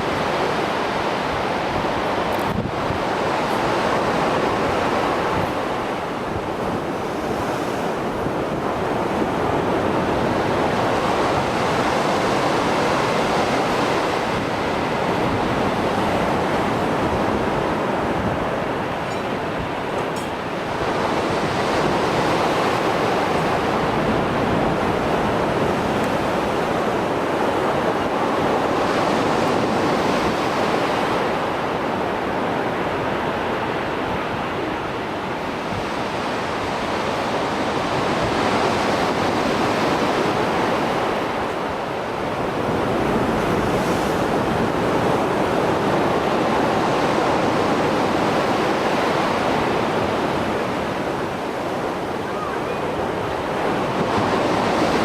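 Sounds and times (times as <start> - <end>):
sea waves breaking ashore: 0.0 - 55.0.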